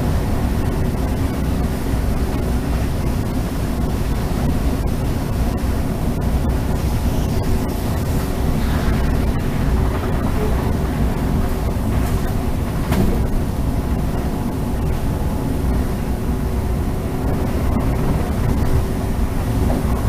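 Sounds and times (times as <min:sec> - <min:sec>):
faint constant hum: 0:00.0 - 0:20.0
train rumble and rush: 0:00.0 - 0:20.0.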